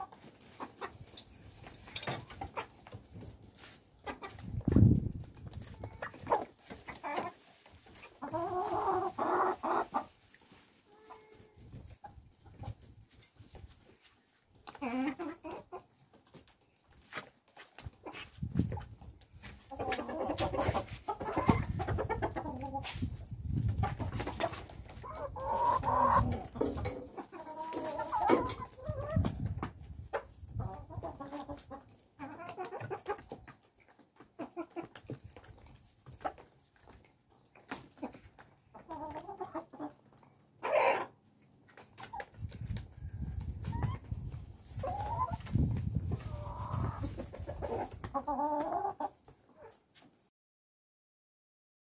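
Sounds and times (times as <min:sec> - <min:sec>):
chickens clucking: 0:00.0 - 0:50.3.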